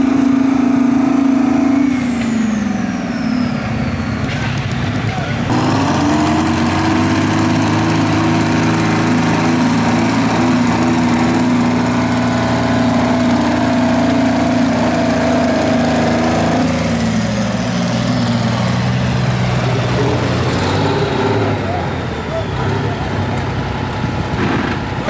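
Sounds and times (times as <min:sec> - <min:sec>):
diesel engine running hard: 0:00.0 - 0:25.0.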